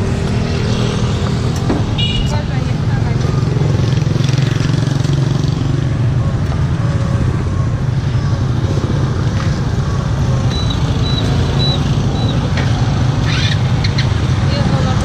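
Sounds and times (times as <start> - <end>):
motor scooters idling and riding: 0.0 - 15.0.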